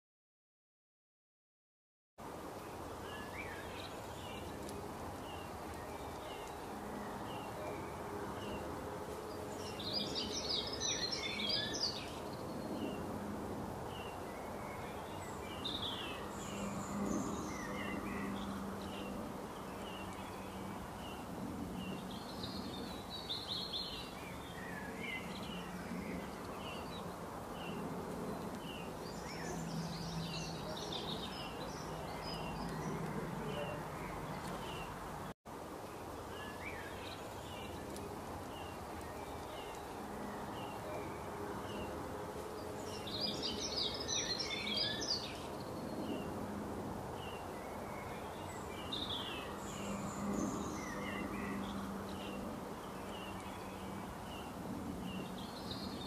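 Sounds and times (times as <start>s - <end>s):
songbirds chirping and twittering: 2.2s - 56.0s
steady background hiss: 2.2s - 56.0s.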